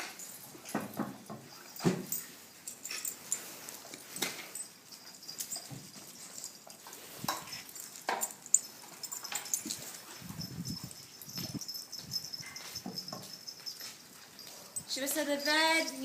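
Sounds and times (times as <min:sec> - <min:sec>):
dogs scuffling and clicking: 0:00.0 - 0:16.0.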